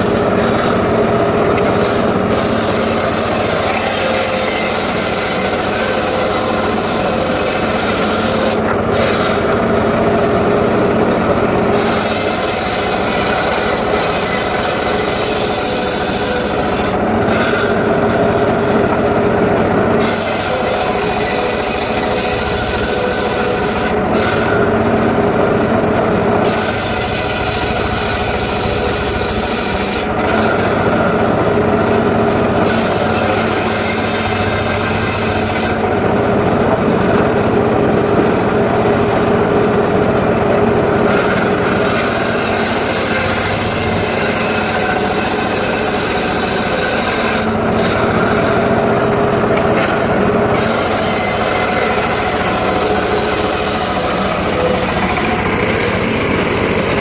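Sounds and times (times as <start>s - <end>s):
saw blade rasping through wood: 0.0s - 18.9s, 19.6s - 24.9s, 26.3s - 37.3s, 40.4s - 57.0s
circular saw motor running: 0.0s - 57.0s.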